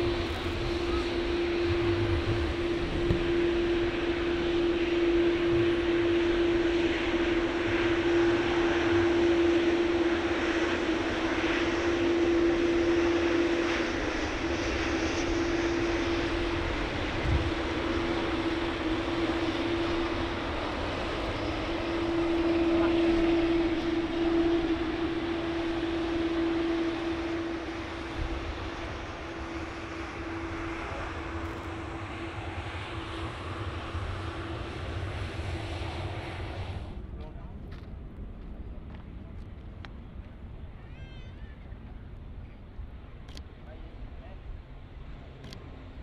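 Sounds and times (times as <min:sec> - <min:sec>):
airliner engine drone: 0:00.0 - 0:46.0.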